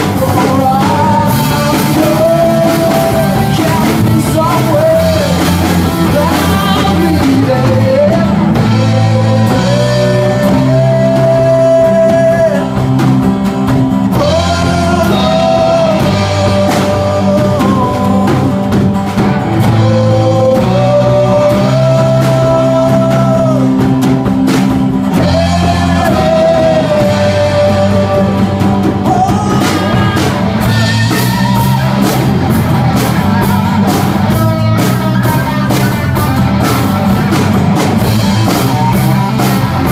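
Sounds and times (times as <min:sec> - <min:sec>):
bass guitar: 0:00.0 - 0:39.9
drum kit: 0:00.0 - 0:39.9
electric guitar: 0:00.0 - 0:39.9
man singing: 0:00.0 - 0:39.9.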